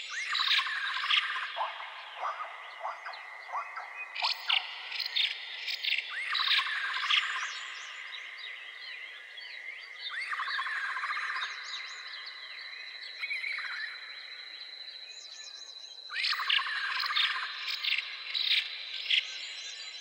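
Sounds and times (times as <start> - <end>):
birds singing and chirping: 0.0 - 20.0.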